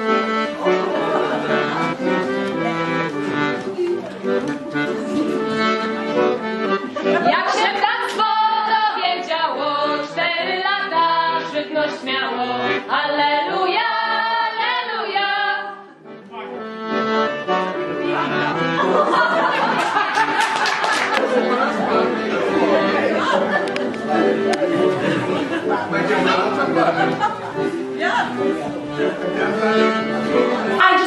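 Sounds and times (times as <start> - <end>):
accordion music: 0.0 - 31.0.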